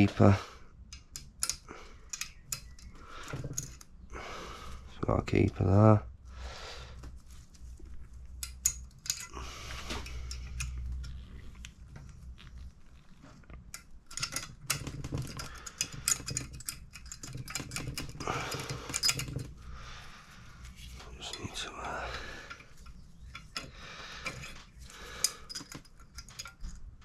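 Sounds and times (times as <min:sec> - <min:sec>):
metal parts clicking and scraping: 0:00.9 - 0:04.0, 0:07.4 - 0:27.0.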